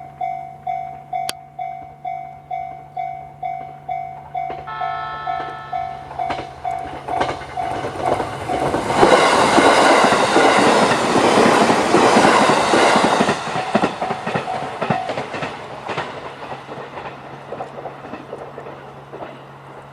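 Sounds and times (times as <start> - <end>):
electric train running: 0.0 - 19.9
rail-joint clicks: 0.1 - 19.9.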